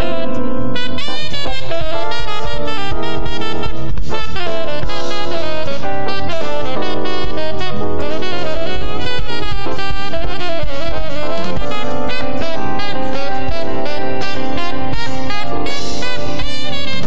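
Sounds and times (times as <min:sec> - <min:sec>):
bass: 0:00.0 - 0:17.0
drum kit: 0:00.0 - 0:17.0
live jazz band: 0:00.0 - 0:17.0
saxophone solo: 0:00.0 - 0:17.0.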